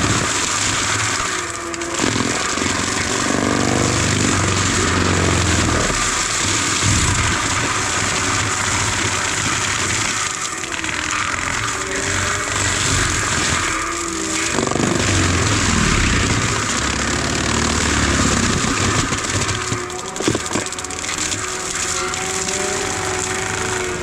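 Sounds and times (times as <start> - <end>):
heavy machine engine working: 0.0 - 24.0.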